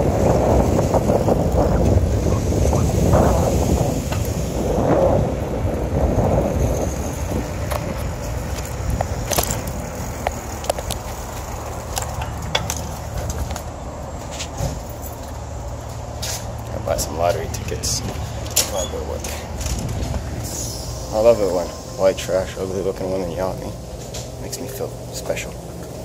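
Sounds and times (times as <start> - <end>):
wind rumble on microphone: 0.0 - 21.7.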